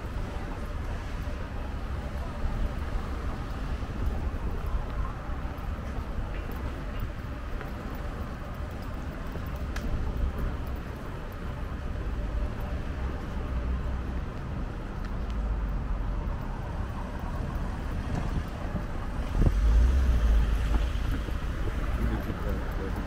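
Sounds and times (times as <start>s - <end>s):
passing cars rumbling: 0.0s - 23.0s.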